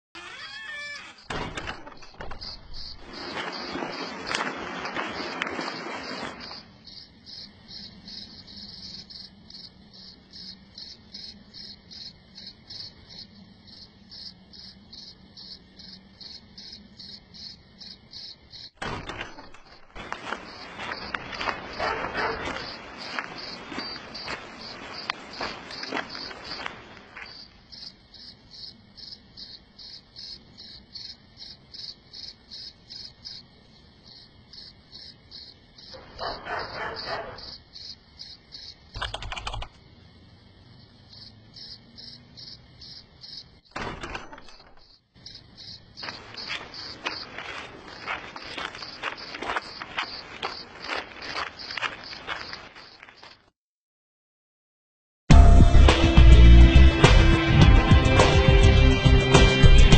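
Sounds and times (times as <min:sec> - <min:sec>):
cricket chirping: 0:00.2 - 0:53.4.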